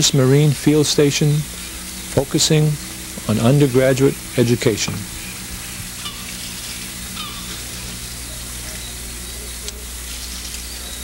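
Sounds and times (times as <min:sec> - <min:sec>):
low hum: 0:00.0 - 0:11.0
steady hiss: 0:00.0 - 0:11.0.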